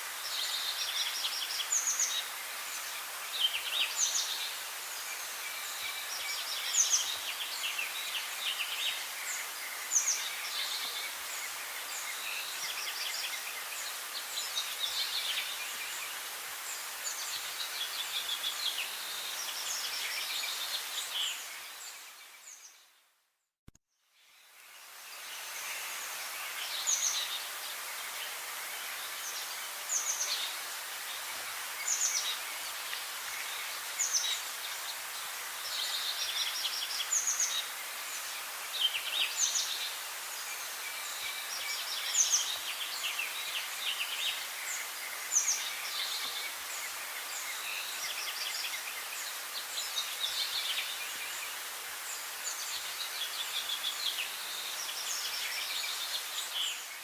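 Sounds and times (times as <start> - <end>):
outdoor hiss: 0.0 - 23.2, 24.1 - 57.0
songbirds chirping: 0.0 - 23.2, 24.0 - 57.0.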